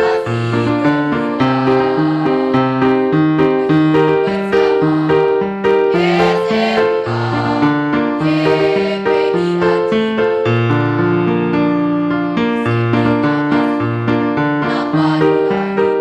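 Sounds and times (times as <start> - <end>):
electric keyboard playing a march: 0.0 - 16.0.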